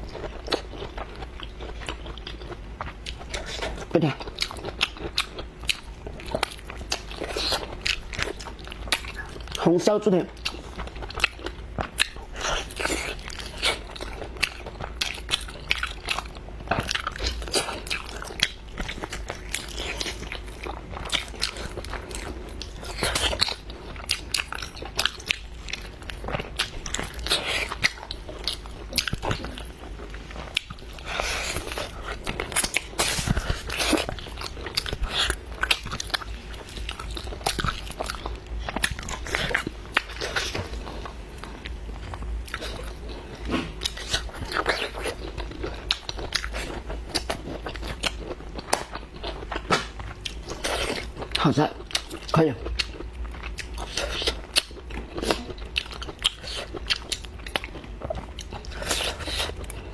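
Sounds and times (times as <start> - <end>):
biting and chewing: 0.0 - 59.9.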